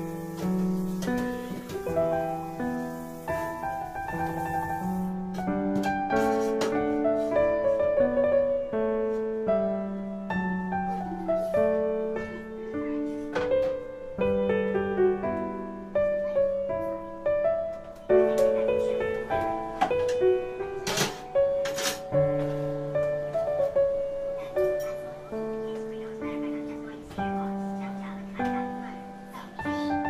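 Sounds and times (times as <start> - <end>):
piano melody: 0.0 - 30.0.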